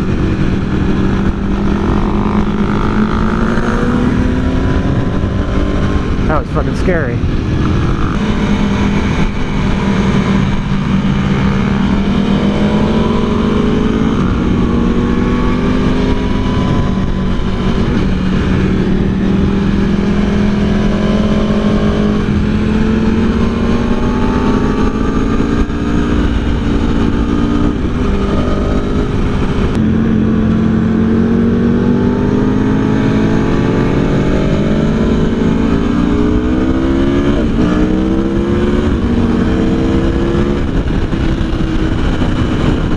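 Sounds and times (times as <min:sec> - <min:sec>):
motorcycle engine revving: 0:00.0 - 0:42.9
wind on microphone: 0:00.0 - 0:42.9.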